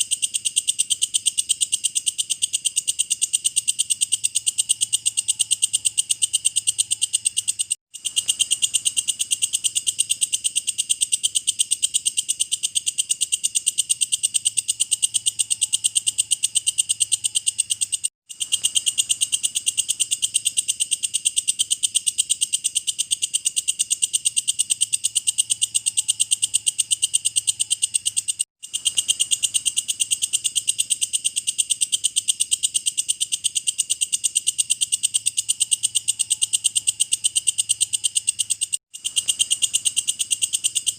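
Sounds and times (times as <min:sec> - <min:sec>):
insect calling in fast pulses: 0:00.0 - 0:40.9.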